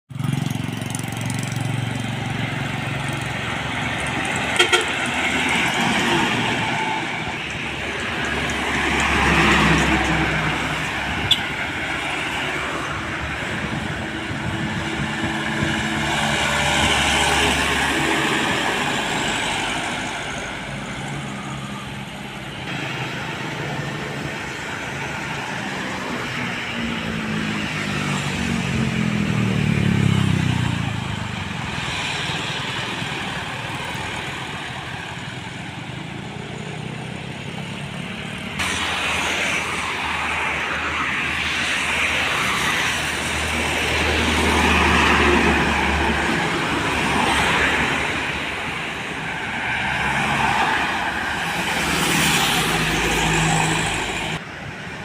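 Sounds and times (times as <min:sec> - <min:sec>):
heavy trucks passing: 0:00.1 - 0:55.0
traffic passing close by: 0:00.1 - 0:55.0.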